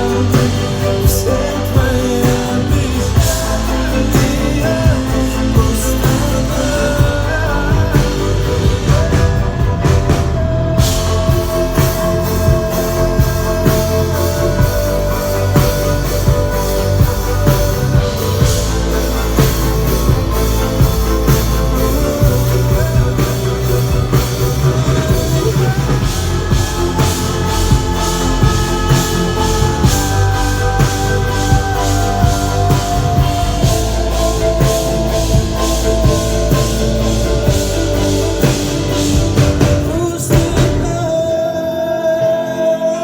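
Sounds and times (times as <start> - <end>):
drum kit beat: 0.0 - 41.2
live pop band instrumental: 0.0 - 43.0.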